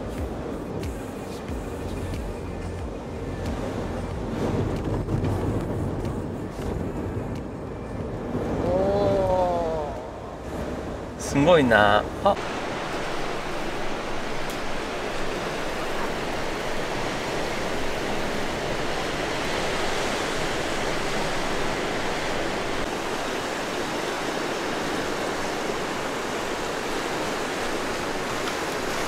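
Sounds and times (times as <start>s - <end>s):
waves breaking on rocky shore: 0.0s - 29.0s.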